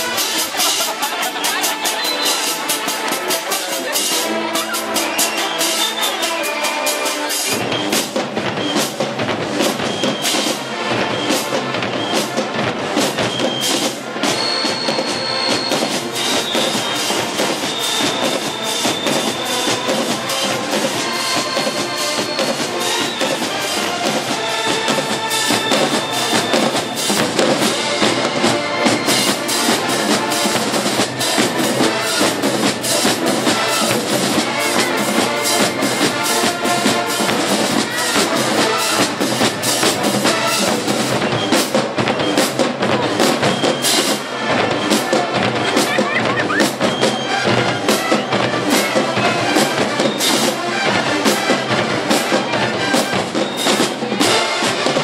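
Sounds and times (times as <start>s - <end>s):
drumline beat: 0.0s - 55.0s
marching band brass: 0.0s - 55.0s.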